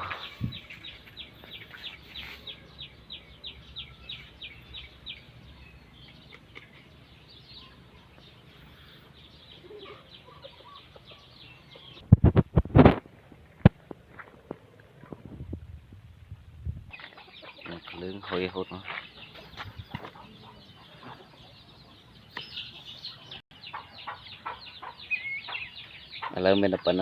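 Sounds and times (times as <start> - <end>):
bird chirping: 0.0 - 12.1, 16.9 - 27.0.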